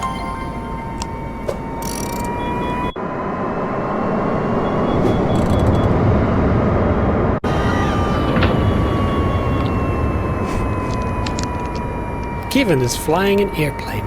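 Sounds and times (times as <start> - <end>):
airplane engine and cabin noise: 0.0 - 14.0
rising whine: 0.0 - 14.0.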